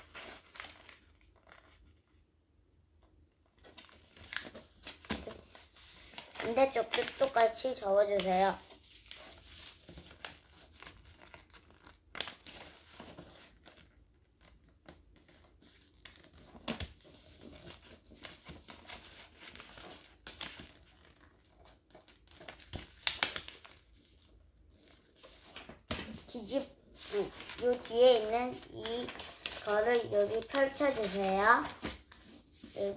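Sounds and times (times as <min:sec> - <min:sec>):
paper rustling being folded: 0:00.0 - 0:02.3, 0:03.4 - 0:32.9.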